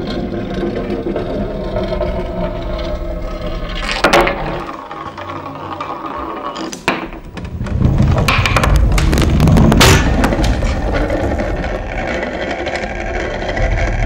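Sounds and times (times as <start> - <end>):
heavy mechanical rumbling: 0.0 - 4.8, 7.1 - 14.0
clattering knocks and rattles: 0.0 - 14.0.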